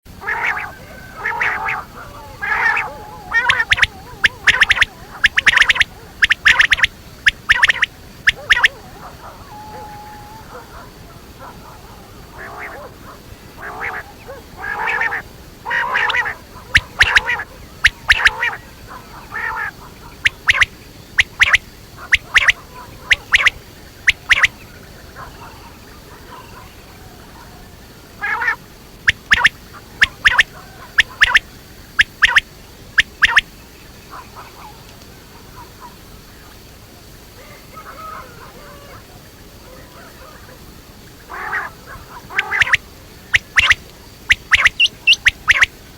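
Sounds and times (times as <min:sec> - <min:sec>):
quail calling: 0:00.1 - 0:36.1, 0:37.3 - 0:45.9.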